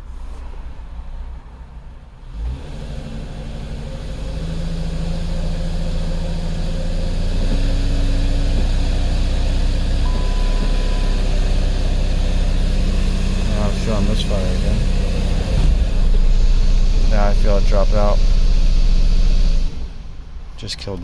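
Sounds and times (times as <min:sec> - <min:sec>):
car engine idling with misfire: 0:02.4 - 0:21.0.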